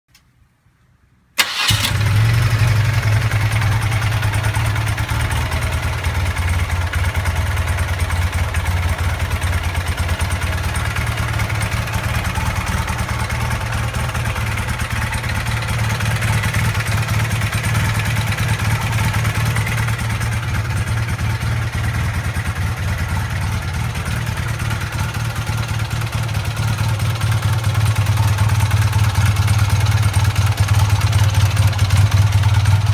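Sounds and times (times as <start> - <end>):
motorcycle engine idling rattling: 1.4 - 32.9.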